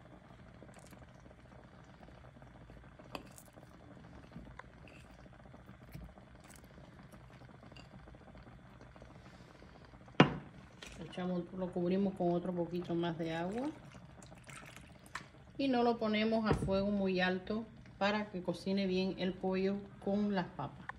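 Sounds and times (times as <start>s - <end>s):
stew bubbling in a pot: 0.0s - 20.9s.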